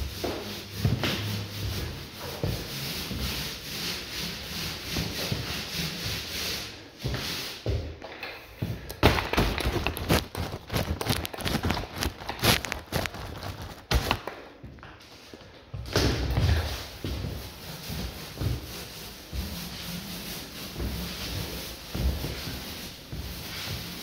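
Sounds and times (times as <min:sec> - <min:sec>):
paint roller swishing on wall: 0:00.0 - 0:14.3, 0:15.0 - 0:24.0.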